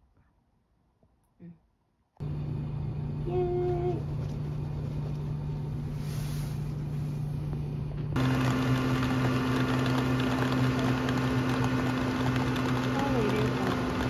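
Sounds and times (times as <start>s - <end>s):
low mechanical hum: 2.2s - 14.0s.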